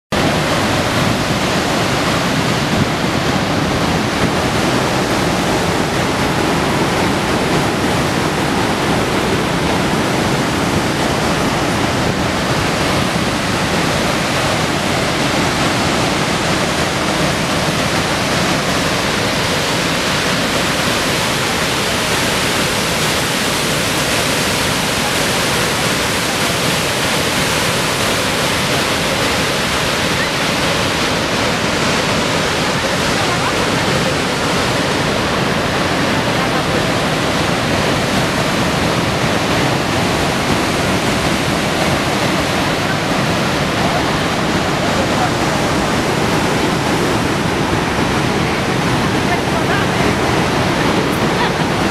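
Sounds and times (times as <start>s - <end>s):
waterfall rushing: 0.1s - 51.9s.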